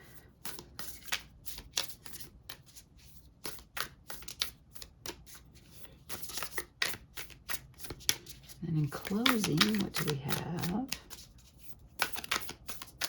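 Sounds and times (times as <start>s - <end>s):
cards being shuffled: 0.3s - 13.0s.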